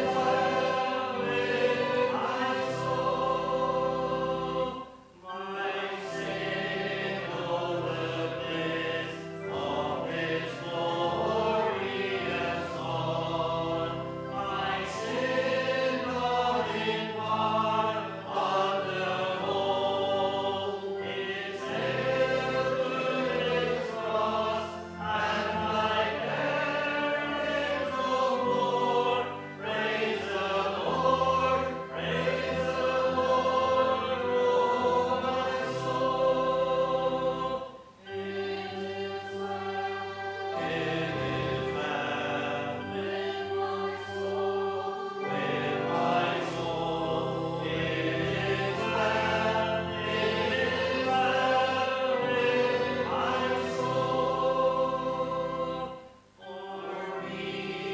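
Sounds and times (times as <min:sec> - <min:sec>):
choir singing a hymn: 0:00.0 - 0:57.9
instrumental accompaniment: 0:00.0 - 0:57.9.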